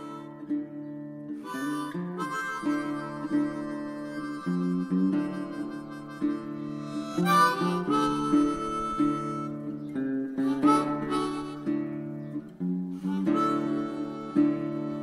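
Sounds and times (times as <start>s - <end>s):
guitar: 0.0s - 15.0s
harmonica playing chords: 0.0s - 15.0s.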